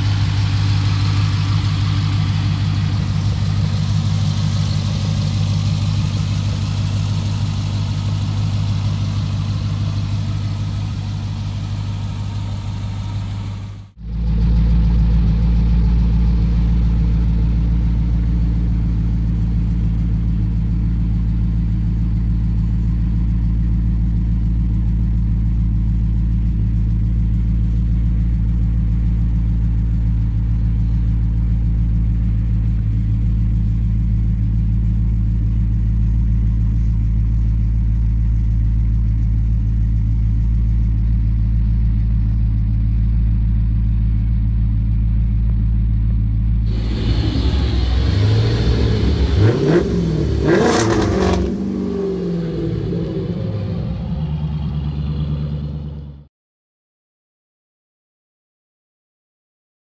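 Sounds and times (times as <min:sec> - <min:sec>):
car engine idling: 0:00.0 - 0:56.3.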